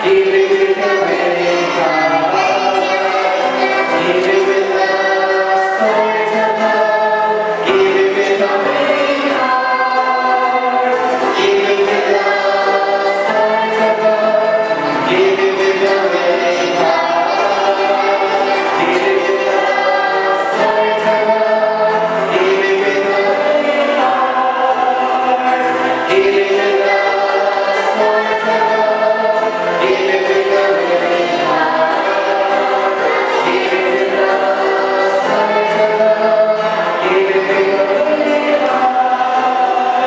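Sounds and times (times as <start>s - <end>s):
group singing in harmony: 0.0s - 40.0s.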